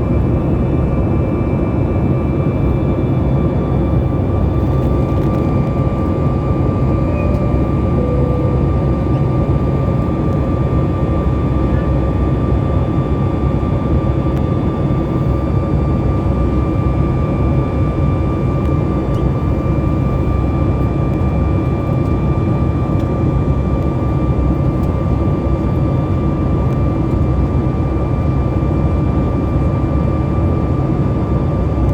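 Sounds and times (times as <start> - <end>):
jet engines rumbling and whining: 0.0 - 31.9.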